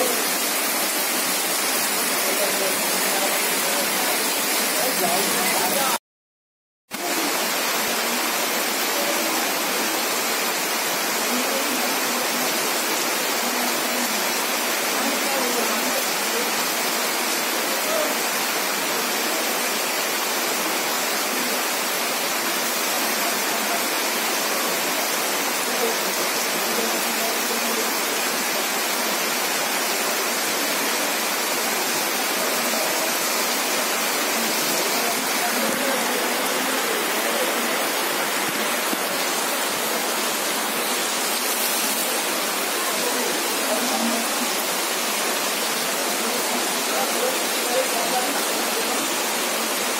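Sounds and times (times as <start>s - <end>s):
heavy rain pouring: 0.0s - 6.0s, 6.9s - 49.9s.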